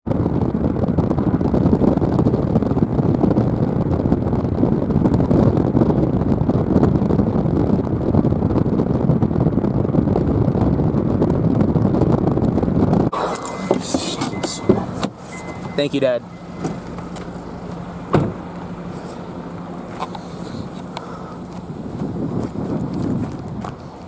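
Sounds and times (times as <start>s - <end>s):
car noise: 0.1s - 24.0s
wind buffeting microphone: 0.1s - 24.0s.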